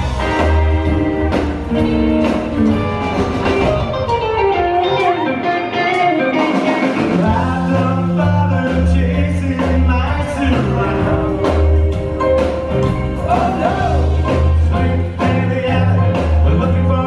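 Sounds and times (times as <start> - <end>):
upright bass and drums: 0.0 - 4.5, 6.5 - 17.0
hollow-body electric guitar: 0.0 - 17.0.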